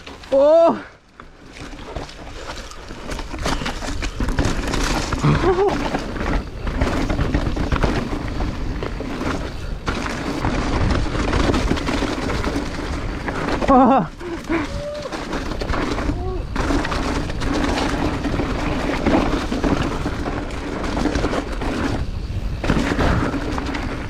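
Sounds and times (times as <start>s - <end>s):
bike frame and chain rattling: 0.0s - 24.0s
tyres rolling over dirt and rock: 0.0s - 24.0s
wind on microphone: 3.8s - 24.0s.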